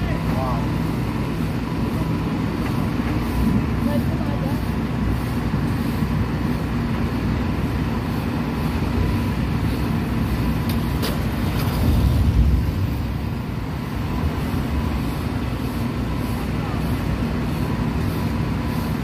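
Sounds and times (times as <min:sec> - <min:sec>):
crane engine running: 0:00.0 - 0:19.0
road traffic: 0:00.0 - 0:19.0.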